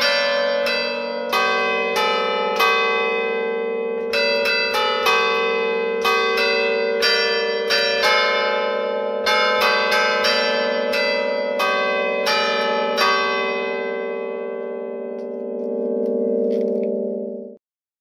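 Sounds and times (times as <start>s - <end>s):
church bells playing a quick tune: 0.0s - 17.6s.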